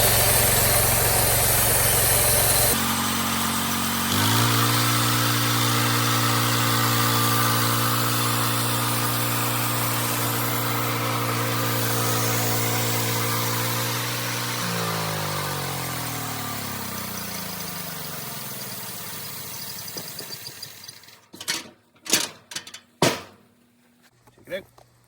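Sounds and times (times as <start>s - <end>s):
sawmill engine running: 0.0s - 21.3s.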